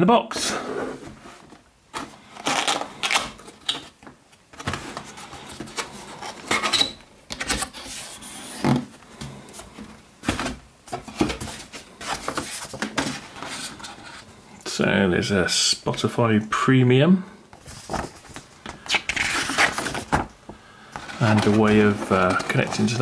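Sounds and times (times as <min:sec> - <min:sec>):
cardboard scraping and rustling: 0:00.3 - 0:14.3, 0:17.6 - 0:20.3, 0:21.0 - 0:23.0.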